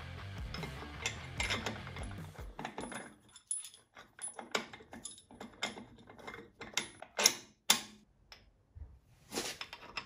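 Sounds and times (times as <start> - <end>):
metal bolt clinking on steel: 0.3 - 8.4.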